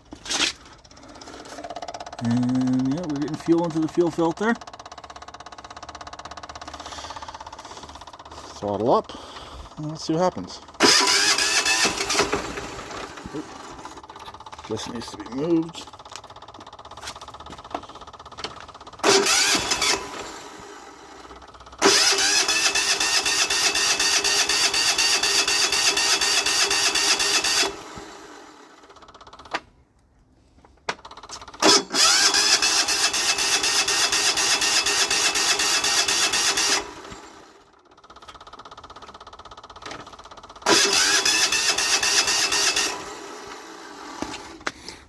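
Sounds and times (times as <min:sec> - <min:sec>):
engine cranking by electric starter: 0:00.0 - 0:29.8, 0:30.8 - 0:45.0
starter whine: 0:00.0 - 0:29.8, 0:30.7 - 0:45.0.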